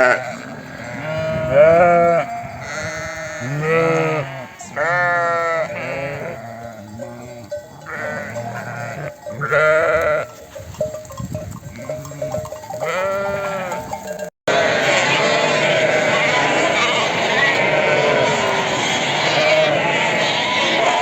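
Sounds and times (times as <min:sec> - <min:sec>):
sheep bleating: 0:00.0 - 0:10.4, 0:11.7 - 0:21.0.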